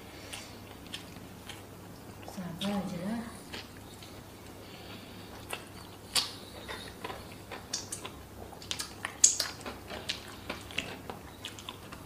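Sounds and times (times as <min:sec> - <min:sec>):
chewing crunchy fried fish: 0:00.0 - 0:02.8, 0:03.4 - 0:12.0.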